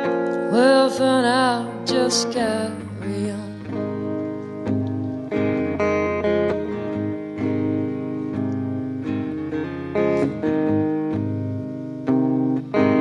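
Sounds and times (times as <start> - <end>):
clean electric guitar chords: 0.0 - 13.0.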